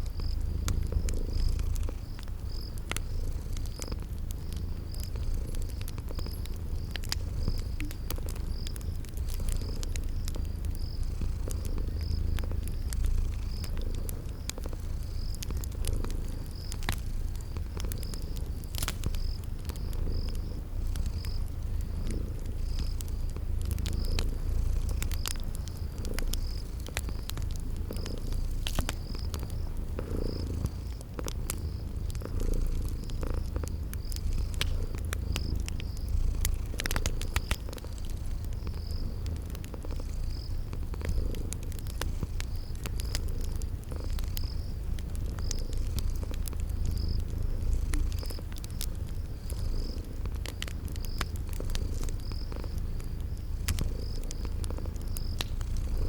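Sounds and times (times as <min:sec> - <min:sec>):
cat purring: 0:00.0 - 0:56.0
crickets chirping: 0:00.0 - 0:56.0
fire crackling: 0:00.0 - 0:56.0.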